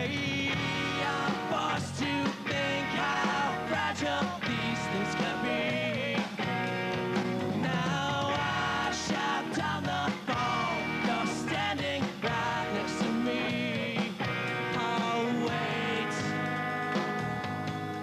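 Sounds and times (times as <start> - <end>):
bass guitar: 0.0 - 18.0
drum beat: 0.0 - 18.0
electric guitars: 0.0 - 18.0.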